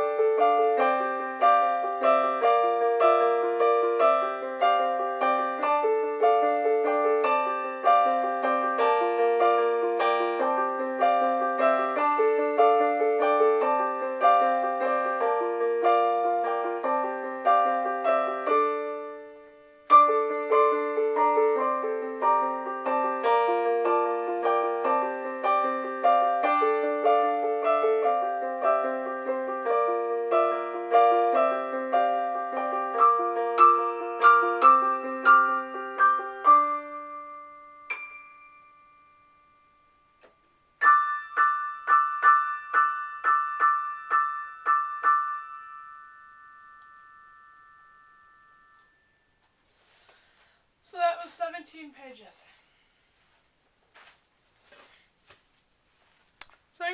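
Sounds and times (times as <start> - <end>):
piano piece: 0.0 - 49.5.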